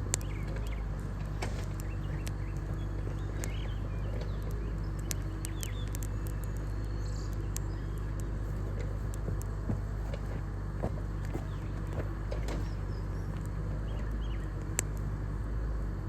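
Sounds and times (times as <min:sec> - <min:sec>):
sharp clicks: 0:00.0 - 0:13.6
birds chirping: 0:00.0 - 0:15.0
excavator diesel engine droning: 0:00.0 - 0:16.0.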